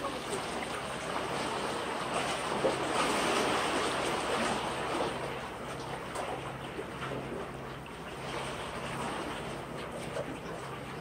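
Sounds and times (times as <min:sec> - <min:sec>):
sea water washing against breakwater: 0:00.0 - 0:11.0.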